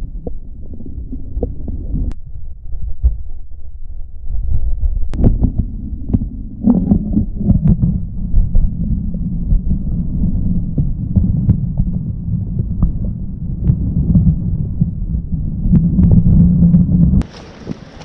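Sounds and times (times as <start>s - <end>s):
underwater surging water: 0.0s - 3.4s, 4.3s - 18.0s.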